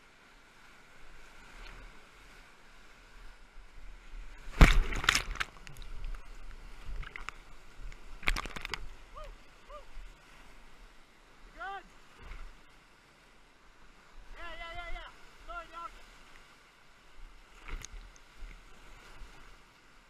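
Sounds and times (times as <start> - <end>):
rushing whitewater: 0.0 - 20.0
waves splashing over boat: 0.0 - 20.0.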